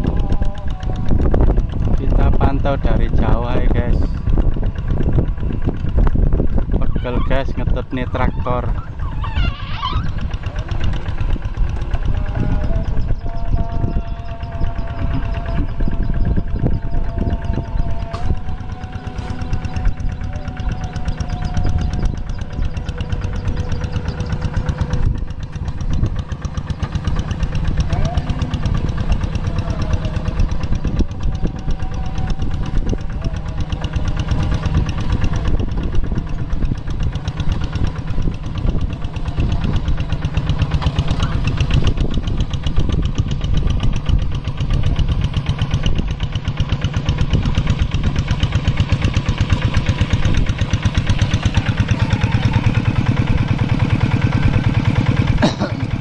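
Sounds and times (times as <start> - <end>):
diesel tractor engine chugging: 0.0 - 56.0.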